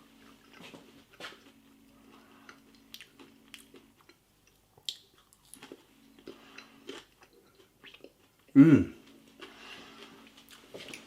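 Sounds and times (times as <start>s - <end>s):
person chewing: 0.2s - 8.5s, 9.3s - 11.0s.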